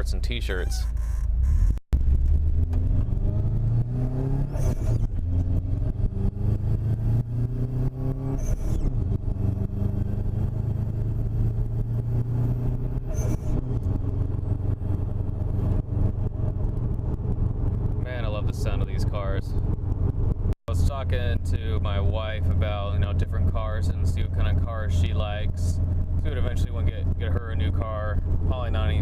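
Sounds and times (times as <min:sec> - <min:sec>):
car engine accelerating: 0:01.4 - 0:29.0.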